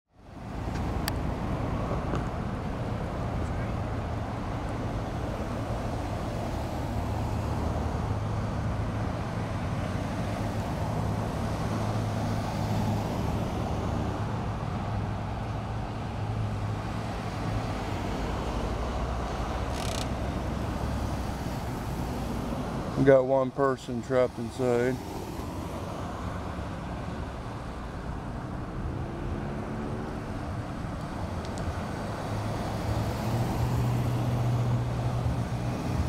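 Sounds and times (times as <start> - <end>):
road traffic: 0.1 - 36.0.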